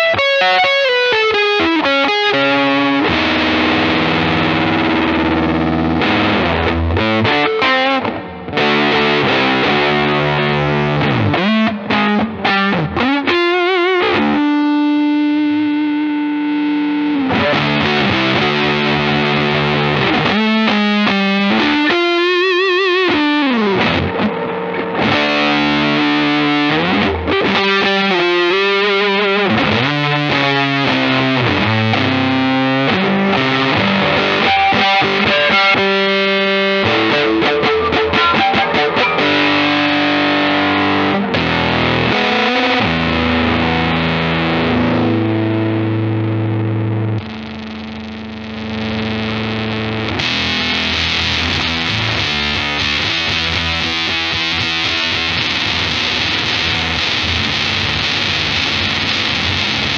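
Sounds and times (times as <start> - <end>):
fuzzed electric guitar: 0.0 - 59.9.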